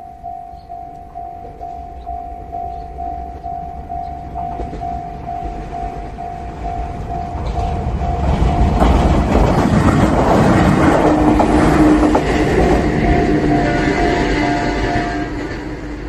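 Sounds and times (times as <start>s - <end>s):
crossing warning bell: 0.0s - 16.0s
train rumble: 0.0s - 16.0s
train wheel clacks: 0.8s - 16.0s.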